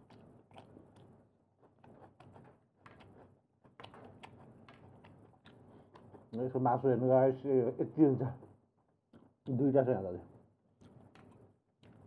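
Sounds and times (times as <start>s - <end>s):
quiet eating mouth sounds: 0.0s - 6.9s, 8.4s - 12.0s.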